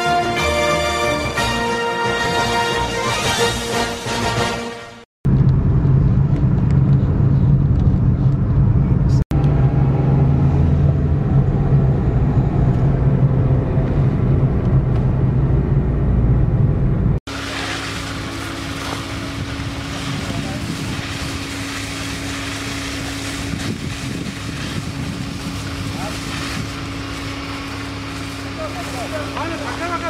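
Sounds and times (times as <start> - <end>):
car cabin engine and road drone: 5.3 - 29.9.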